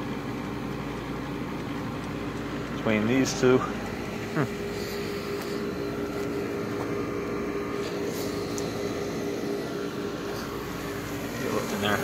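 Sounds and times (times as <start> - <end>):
air conditioner compressor hum: 0.0 - 12.0
air conditioner fan rushing: 0.0 - 12.0.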